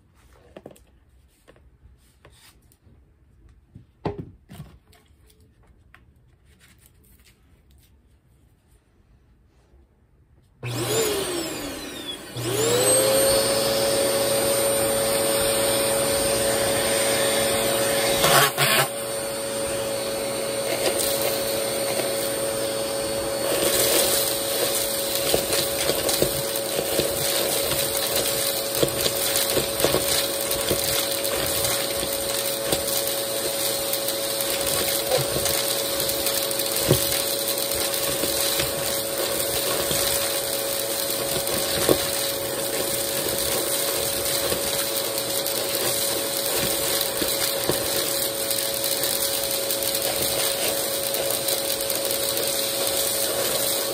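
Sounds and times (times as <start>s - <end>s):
vacuum cleaner running: 10.6s - 53.9s.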